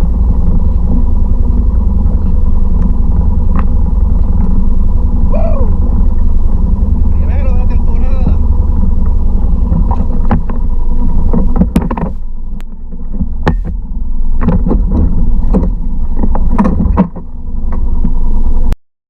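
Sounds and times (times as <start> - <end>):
outboard motor running: 0.0 - 18.8.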